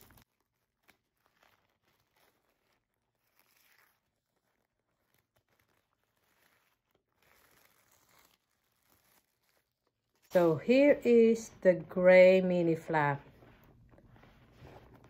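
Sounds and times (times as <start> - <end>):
wrapping paper rustling: 0.0 - 11.4, 12.3 - 15.0.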